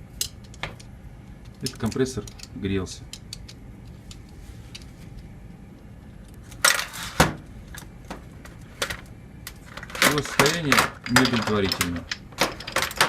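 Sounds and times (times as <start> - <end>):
metal parts scraping: 0.2 - 5.0, 6.4 - 7.8, 8.4 - 13.0.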